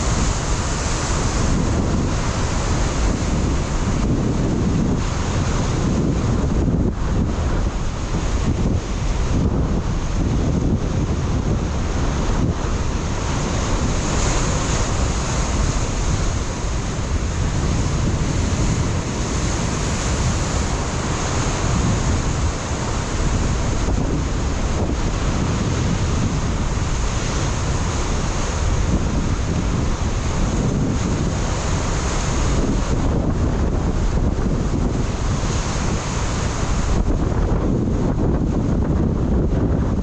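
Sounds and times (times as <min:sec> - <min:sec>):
ocean surf on rocky shore: 0:00.0 - 0:40.0
wind buffeting microphone: 0:00.0 - 0:40.0.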